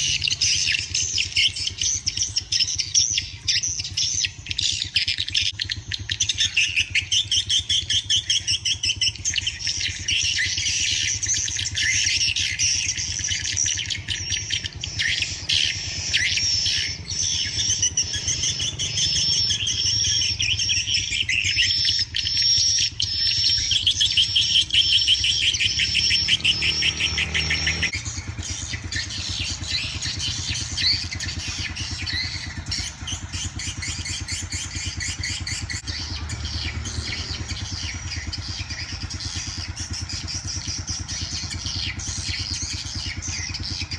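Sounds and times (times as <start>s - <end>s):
swiftlets chirping in rapid trills: 0.0s - 43.9s
low engine hum: 5.6s - 43.9s.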